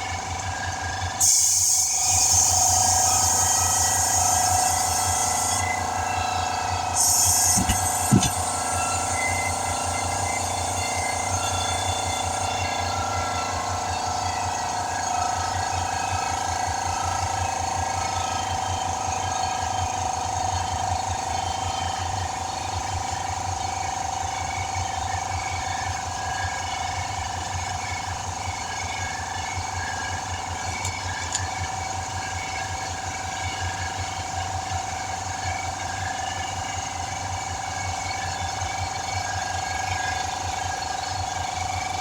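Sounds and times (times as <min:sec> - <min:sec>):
air compressor running: 0:00.0 - 0:42.0.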